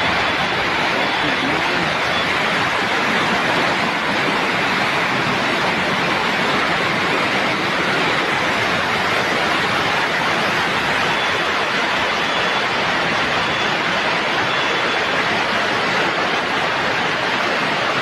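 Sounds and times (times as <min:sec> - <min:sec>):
storm water rushing: 0:00.0 - 0:18.0.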